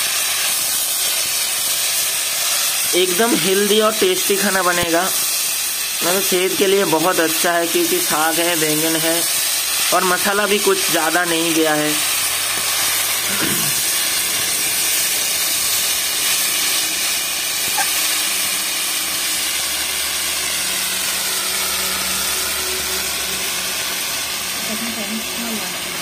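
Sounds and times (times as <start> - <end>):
greens sizzling in a pan: 0.0 - 26.0.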